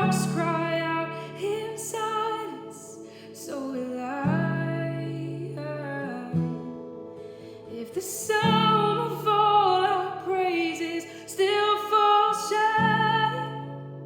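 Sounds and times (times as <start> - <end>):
woman singing worship song: 0.0 - 6.6, 7.7 - 13.9
acoustic guitar chords: 0.0 - 14.0.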